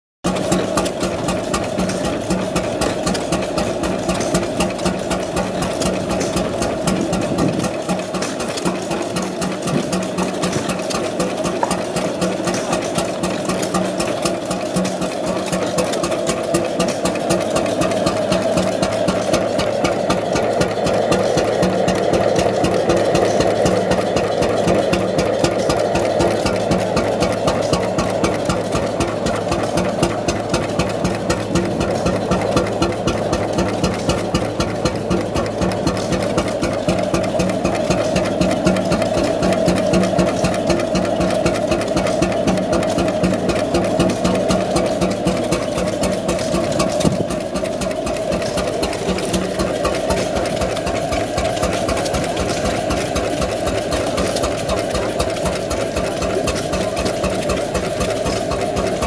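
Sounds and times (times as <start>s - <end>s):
two-stroke oil engine running: 0.2s - 59.0s.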